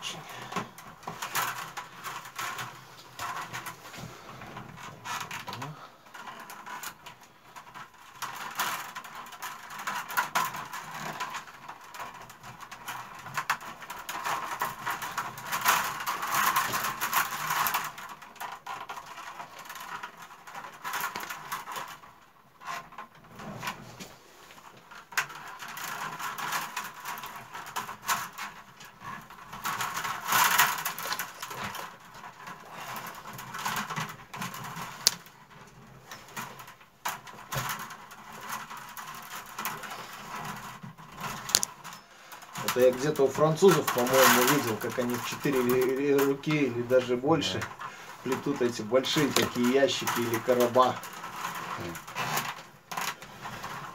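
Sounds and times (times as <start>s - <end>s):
willow rods creaking and clicking: 0.0s - 53.9s.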